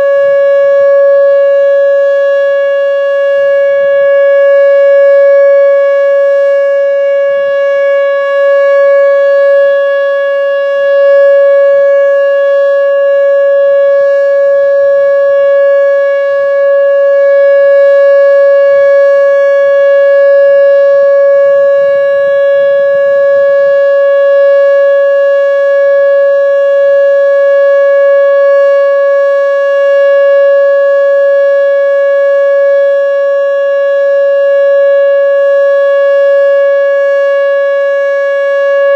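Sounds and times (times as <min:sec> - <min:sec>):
electronic siren steady tone: 0:00.0 - 0:38.9.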